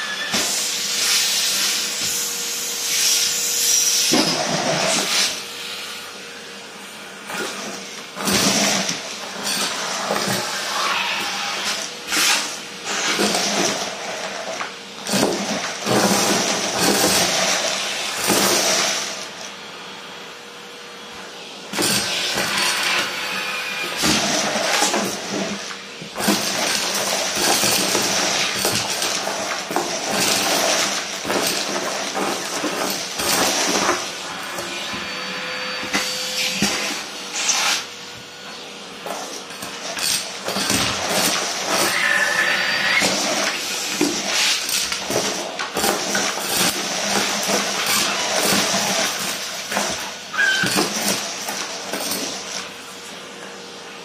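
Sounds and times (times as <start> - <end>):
vacuum cleaner rushing: 0.0 - 54.0.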